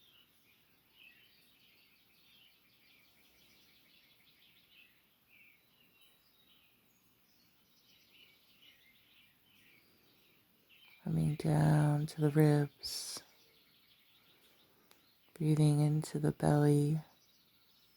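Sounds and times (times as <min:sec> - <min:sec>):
birds chirping and trilling: 0:00.0 - 0:17.9
soft background hiss: 0:00.0 - 0:17.9.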